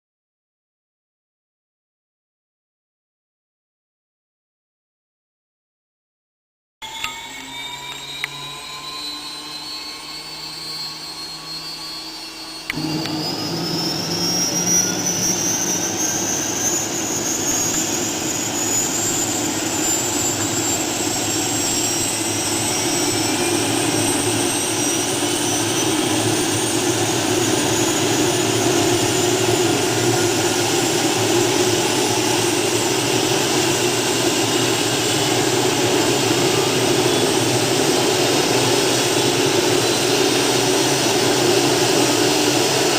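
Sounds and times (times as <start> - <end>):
helicopter engine and rotors spooling up: 6.8 - 42.9
rising whine: 6.8 - 42.9.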